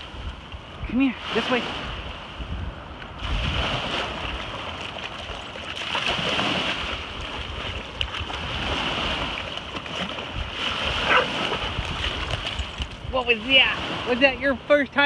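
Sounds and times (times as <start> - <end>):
small waves washing ashore: 0.0 - 15.0
wind rumbling on microphone: 0.0 - 15.0.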